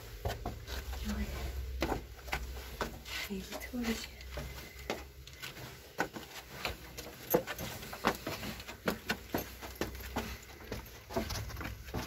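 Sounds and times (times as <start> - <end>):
footsteps on stone steps: 0.0 - 12.0.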